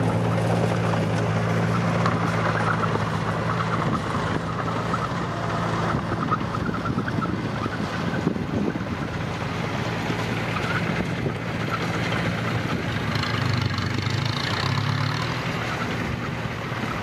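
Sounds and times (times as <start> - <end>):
dump truck diesel engine: 0.0 - 17.0.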